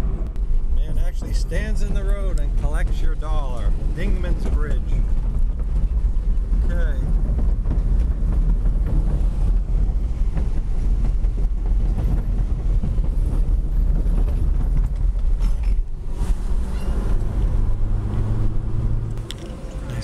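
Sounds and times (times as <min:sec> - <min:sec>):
wind noise: 0:00.0 - 0:20.0
tyres rumbling on wooden planks: 0:00.5 - 0:20.0.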